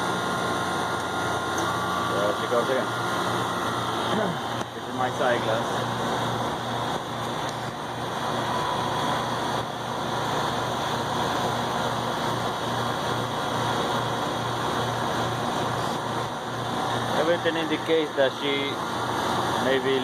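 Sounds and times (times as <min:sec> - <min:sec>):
compressor hum: 0:00.0 - 0:20.0
fan rushing: 0:00.0 - 0:20.0.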